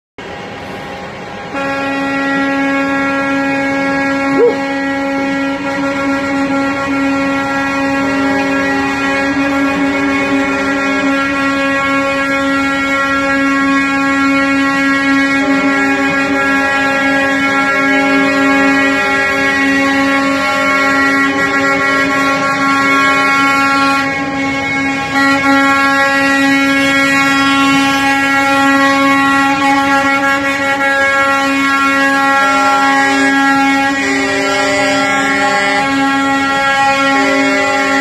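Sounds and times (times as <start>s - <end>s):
truck air horns blowing: 0.2s - 38.0s.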